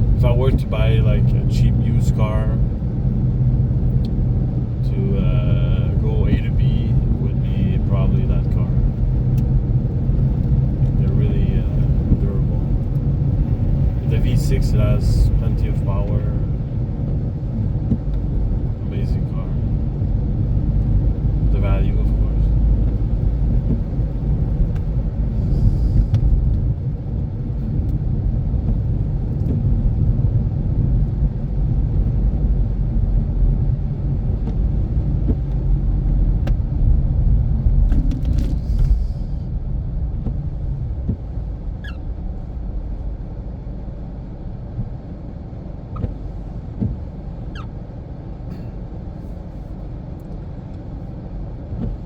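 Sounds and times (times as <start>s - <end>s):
road and engine rumble in car: 0.0s - 52.0s.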